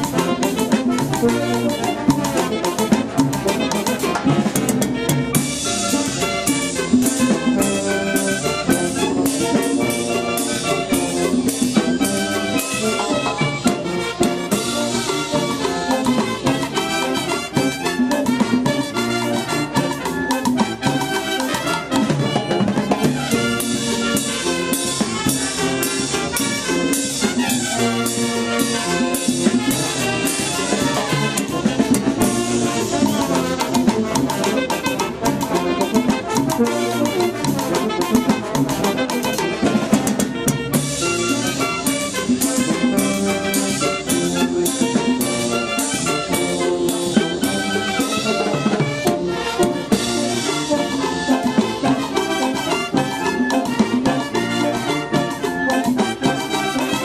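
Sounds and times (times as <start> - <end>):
drum kit and percussion beat: 0.0 - 57.0
trumpets and brass melody: 0.0 - 57.0.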